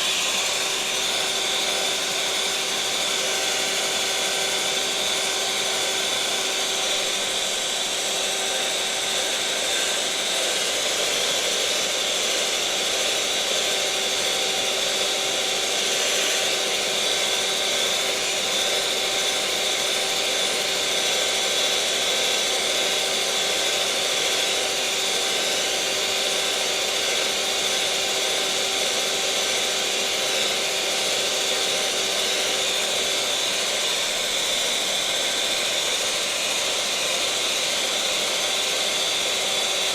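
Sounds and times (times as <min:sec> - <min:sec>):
electric mixer motor whirring: 0:00.0 - 0:39.9.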